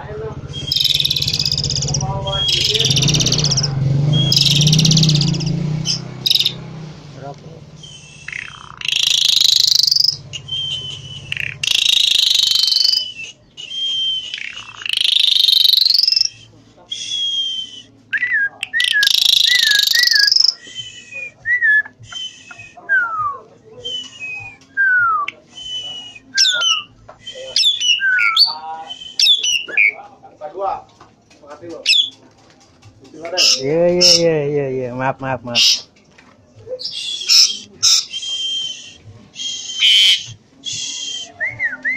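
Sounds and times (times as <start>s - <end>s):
starling singing: 0.0s - 6.9s, 7.6s - 30.1s, 31.8s - 32.2s, 33.2s - 36.0s, 36.7s - 41.9s.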